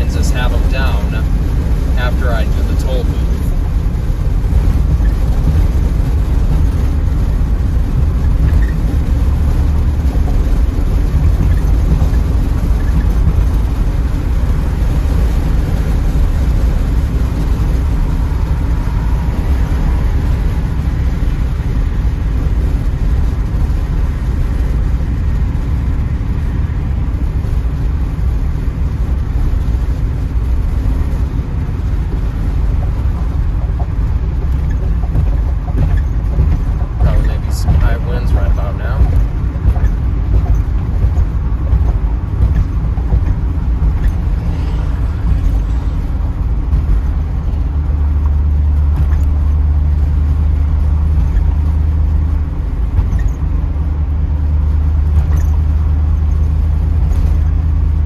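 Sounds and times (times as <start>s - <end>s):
car engine: 0.0s - 58.0s
wind and road noise: 0.0s - 58.0s.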